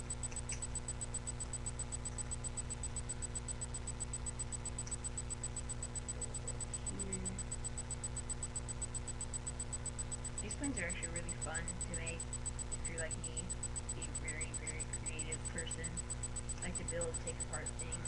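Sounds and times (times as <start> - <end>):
electrical hum and hiss: 0.0 - 18.0
pulsing high whine: 0.0 - 18.0.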